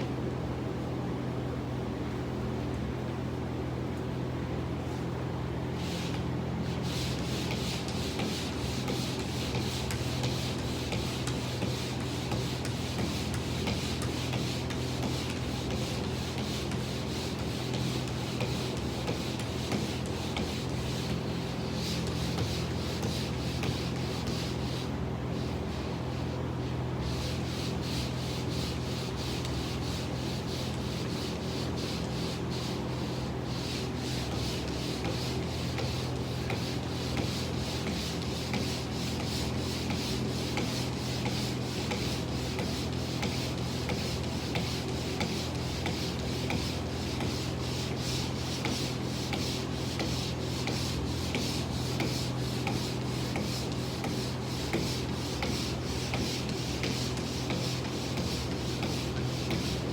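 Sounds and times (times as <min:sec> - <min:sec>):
sander scraping on drywall: 0:05.8 - 0:59.9.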